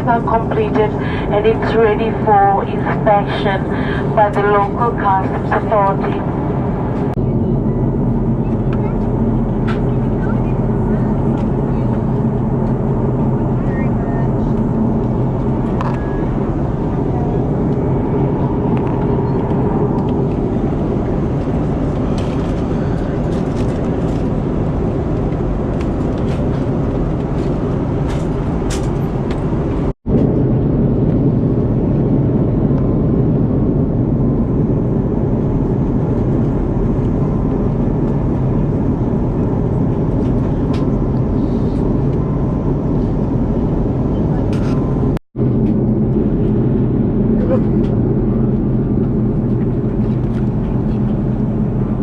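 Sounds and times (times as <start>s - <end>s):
airplane cabin rumble in flight: 0.0s - 52.0s.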